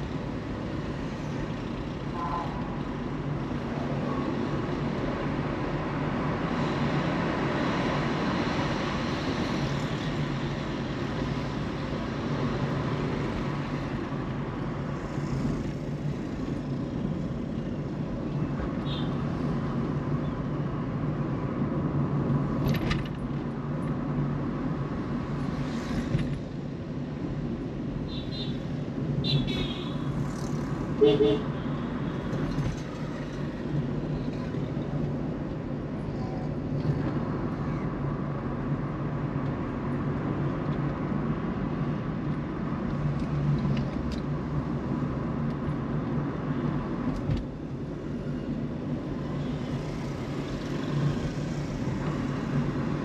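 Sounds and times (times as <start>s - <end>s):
car engine and tyre noise: 0.0s - 53.0s.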